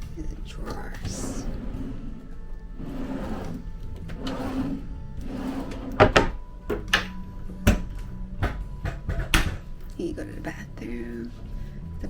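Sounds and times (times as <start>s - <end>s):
drawers sliding and knocking: 0.0s - 9.8s
background music: 0.0s - 12.0s.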